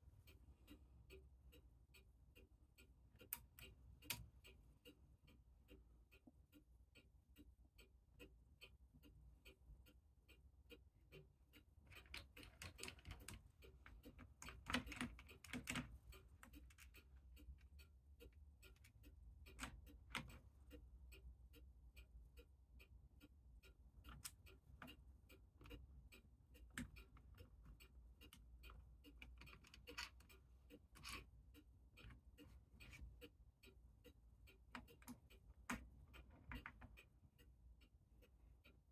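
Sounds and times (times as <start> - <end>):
fast steady ticking and clicking: 0.0 - 38.9.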